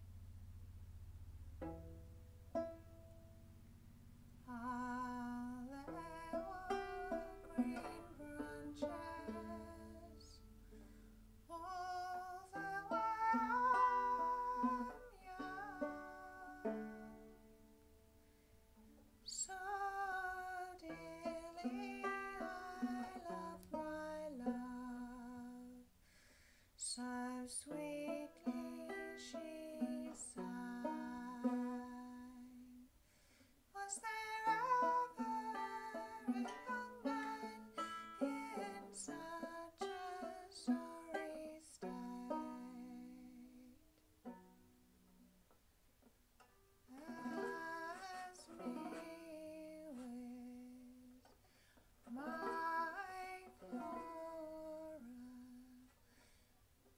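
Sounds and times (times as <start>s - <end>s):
plucked banjo: 0.0s - 25.9s, 26.8s - 32.9s, 33.8s - 56.2s
woman singing a folk song: 4.4s - 17.6s, 19.2s - 25.9s, 26.8s - 44.5s, 46.9s - 56.4s.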